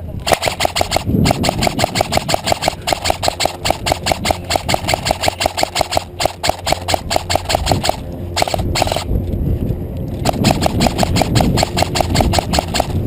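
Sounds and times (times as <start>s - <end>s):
airsoft gun firing full auto: 0.2s - 9.0s, 10.2s - 13.0s.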